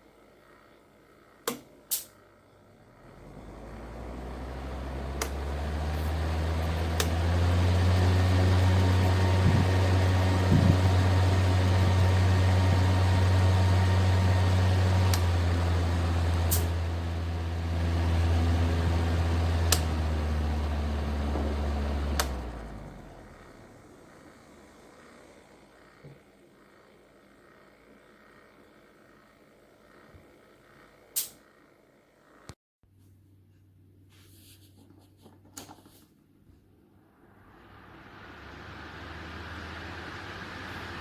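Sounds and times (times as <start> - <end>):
fan motor hum: 0.0 - 32.5, 33.5 - 41.0.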